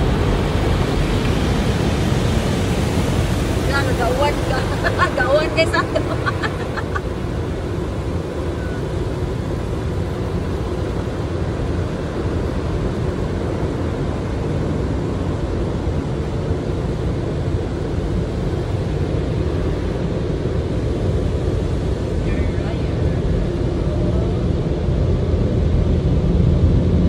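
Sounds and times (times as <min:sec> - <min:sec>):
car wash machinery rushing: 0:00.0 - 0:27.0.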